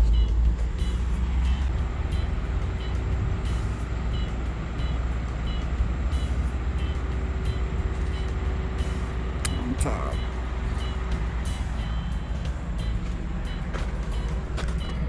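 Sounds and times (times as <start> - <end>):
diesel machinery rumbling: 0.0 - 15.0
reversing alarm beeps: 0.0 - 15.0.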